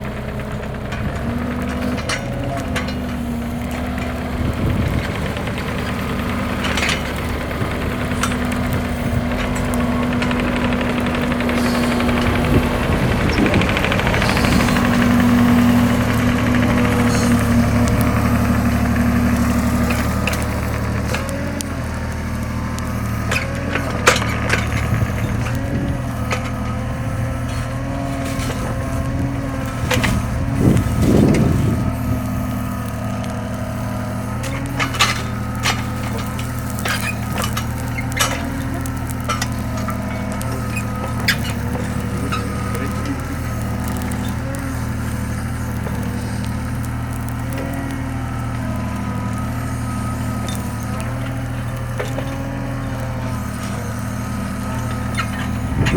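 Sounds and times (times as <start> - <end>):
heavy machine engine running: 0.0 - 55.9
bonfire popping and cracking: 1.1 - 55.9.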